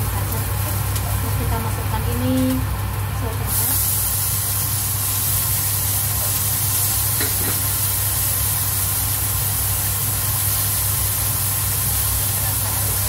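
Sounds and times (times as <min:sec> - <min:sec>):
vegetables sizzling in a wok: 0:00.0 - 0:13.0.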